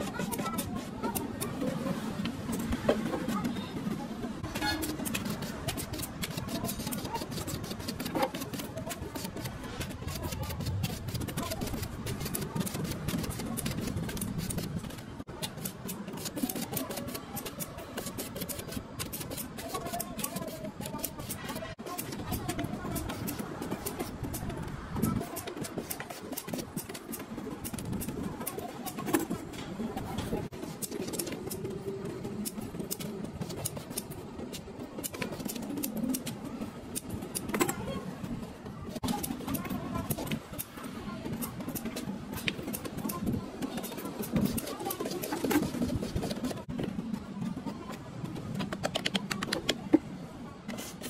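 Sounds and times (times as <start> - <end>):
metallic clicks and scrapes: 0.0 - 3.5, 4.4 - 38.0, 38.9 - 46.9.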